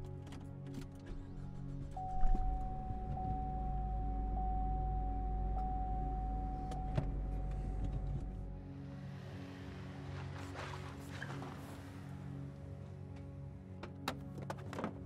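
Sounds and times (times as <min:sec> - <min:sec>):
car motor whine and rumble: 0:00.0 - 0:14.9.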